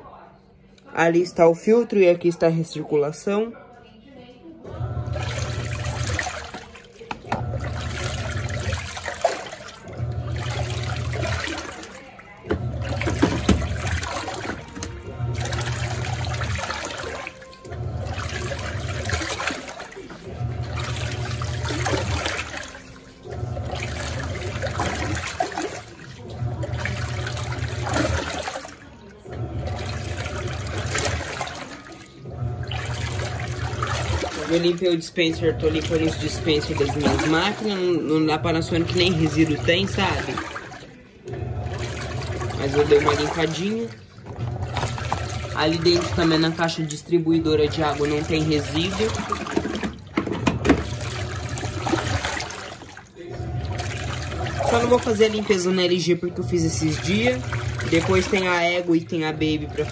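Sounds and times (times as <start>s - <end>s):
washing machine agitating water: 4.6s - 59.9s.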